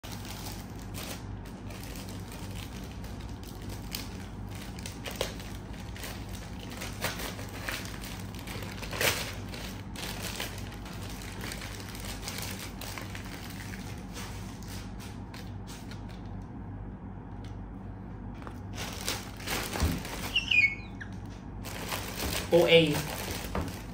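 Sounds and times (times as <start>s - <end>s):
plastic bag crinkling and tearing: 0.0s - 16.3s, 18.7s - 23.9s
steady low hum: 0.0s - 23.9s.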